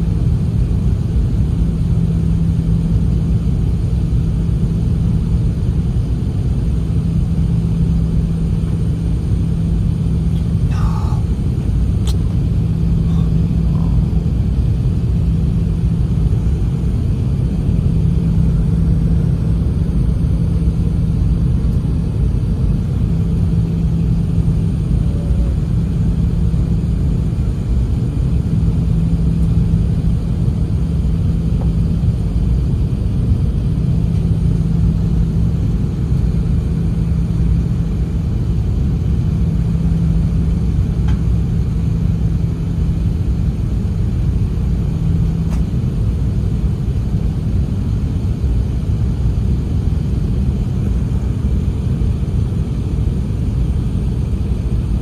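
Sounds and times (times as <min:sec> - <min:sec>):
airliner cabin engine rumble: 0:00.0 - 0:55.0
steady hum: 0:00.0 - 0:55.0.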